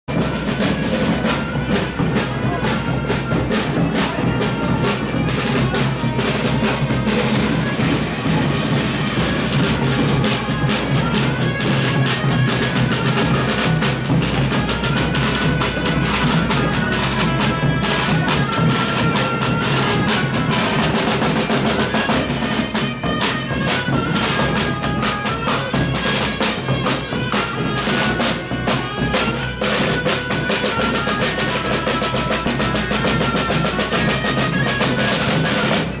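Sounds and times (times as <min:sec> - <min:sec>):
bagpipe melody over drone: 0:00.1 - 0:36.0
marching snare and bass drums: 0:00.1 - 0:36.0.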